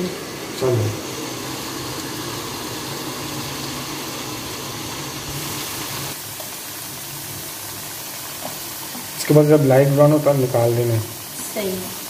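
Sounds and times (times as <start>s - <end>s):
potato slice sizzling in oil: 0.0s - 12.0s.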